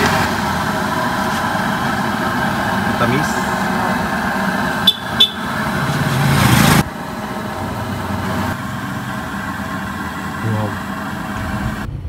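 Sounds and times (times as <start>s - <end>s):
street traffic noise: 0.0s - 12.0s
vehicle engine running: 0.0s - 12.0s.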